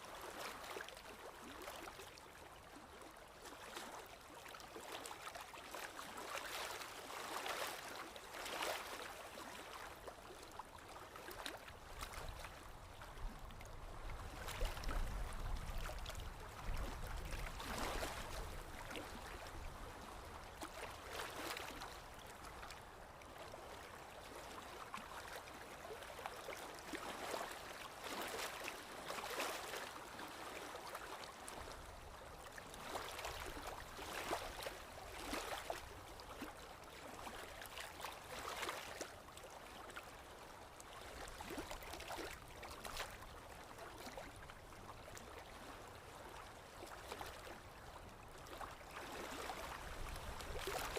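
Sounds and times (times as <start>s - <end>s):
stream splashing and gurgling: 0.0s - 50.9s.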